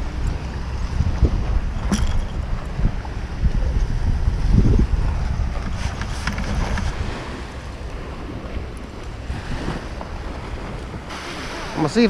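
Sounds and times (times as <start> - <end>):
small surf on beach: 0.0 - 12.0
wind buffeting microphone: 0.0 - 12.0.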